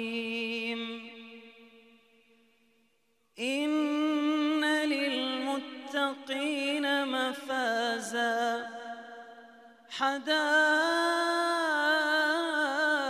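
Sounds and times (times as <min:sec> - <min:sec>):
man chanting melodically: 0:00.0 - 0:01.7, 0:03.4 - 0:13.0.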